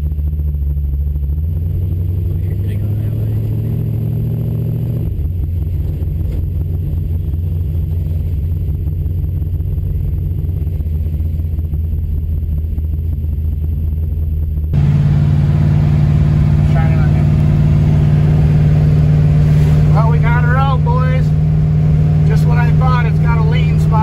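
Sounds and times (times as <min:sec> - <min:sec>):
car engine running at cruise: 0:00.0 - 0:24.0.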